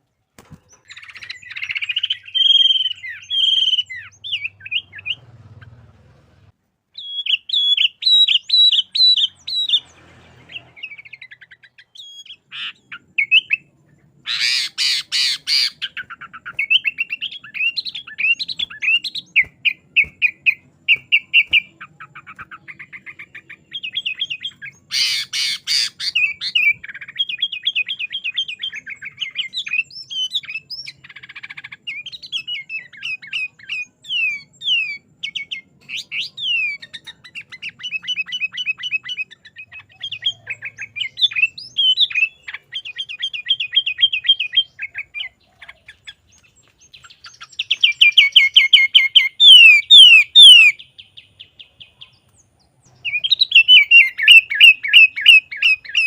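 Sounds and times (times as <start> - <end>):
bulbul chirping song: 0.4 - 6.0, 6.9 - 56.0.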